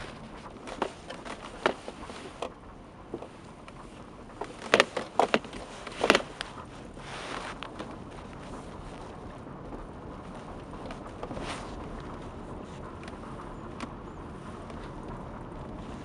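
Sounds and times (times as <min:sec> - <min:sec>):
steady background rush: 0:00.0 - 0:16.0.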